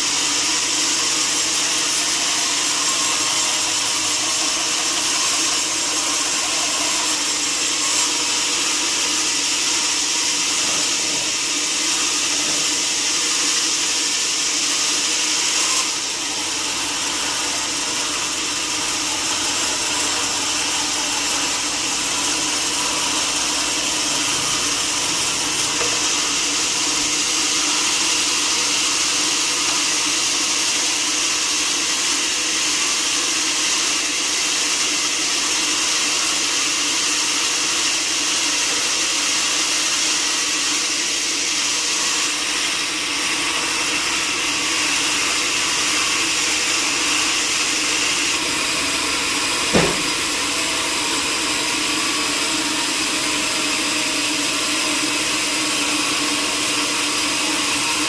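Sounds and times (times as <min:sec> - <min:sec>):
saw cutting timber: 0:00.0 - 0:58.0.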